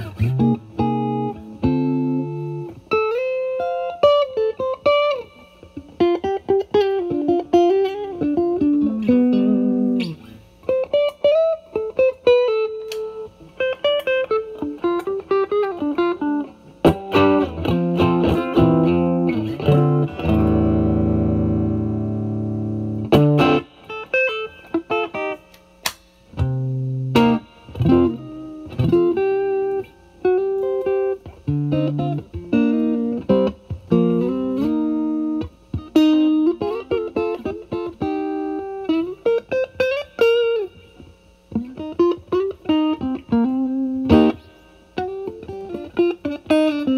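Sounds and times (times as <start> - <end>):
guitar chord ringing: 0.0 - 46.9
overdriven electric guitar lead: 0.0 - 46.9.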